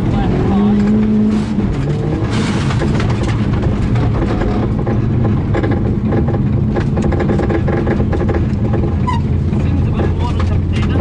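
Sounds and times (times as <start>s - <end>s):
rally car engine running: 0.0s - 11.0s
sharp clicks and knocks: 0.7s - 11.0s.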